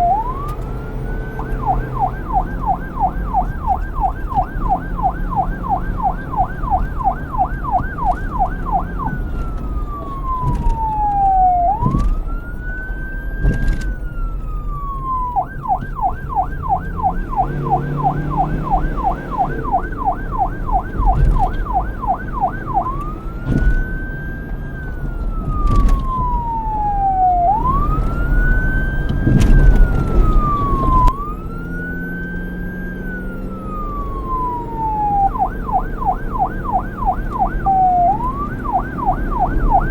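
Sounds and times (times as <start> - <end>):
police siren yelp and wail: 0.0 - 39.9.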